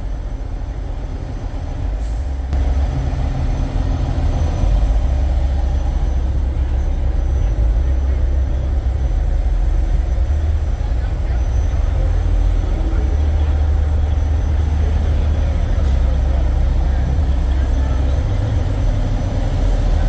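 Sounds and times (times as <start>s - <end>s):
diesel truck engine rumbling: 0.0s - 20.0s.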